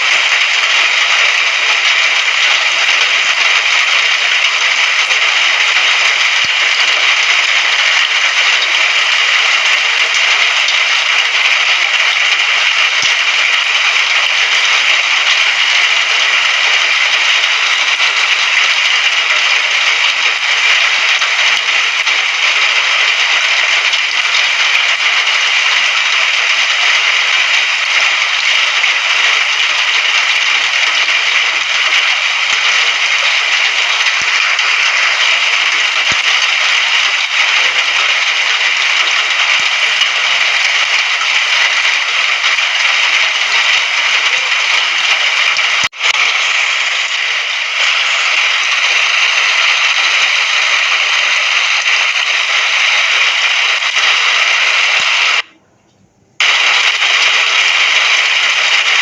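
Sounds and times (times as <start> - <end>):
rain falling: 0.0 - 55.5, 56.4 - 59.0.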